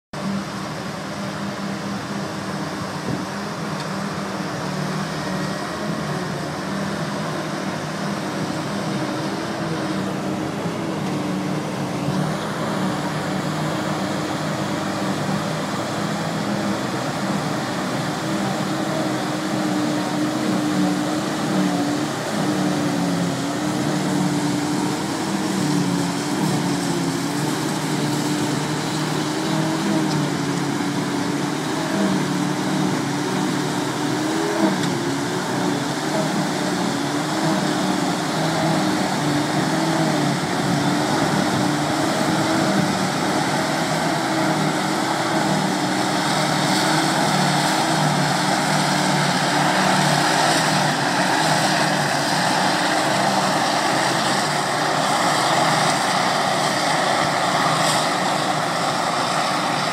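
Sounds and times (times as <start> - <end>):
farm machinery engine humming: 0.2 - 59.9.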